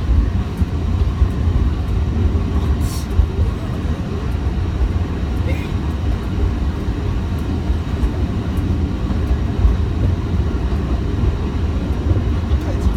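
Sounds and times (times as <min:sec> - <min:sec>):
train wheels rumbling in tunnel: 0:00.0 - 0:12.9.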